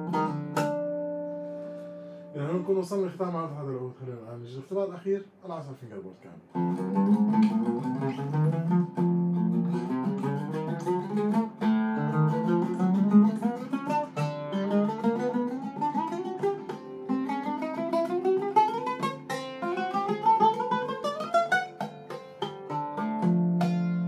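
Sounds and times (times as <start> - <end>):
oud plucked with a plectrum: 0.0 - 3.7, 6.2 - 24.0.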